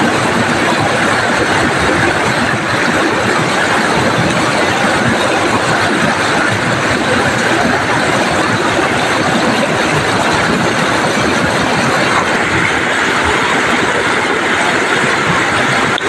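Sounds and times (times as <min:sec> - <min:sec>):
river water rushing over weir: 0:00.0 - 0:16.0.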